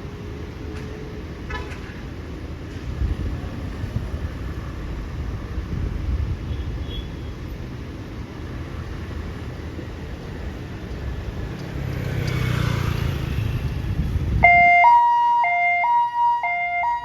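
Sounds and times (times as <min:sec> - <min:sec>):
motor vehicle rumbling: 0:00.0 - 0:14.9.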